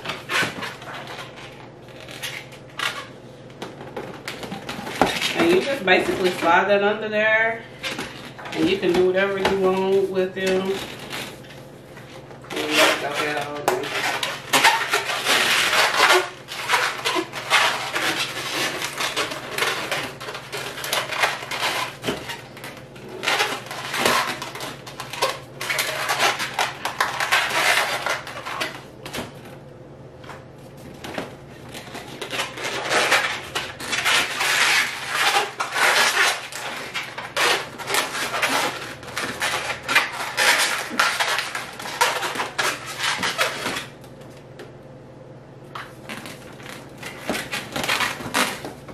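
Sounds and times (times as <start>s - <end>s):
rubber balloons squeaking: 0.0s - 6.9s, 7.7s - 29.4s, 30.8s - 44.0s, 45.9s - 48.9s.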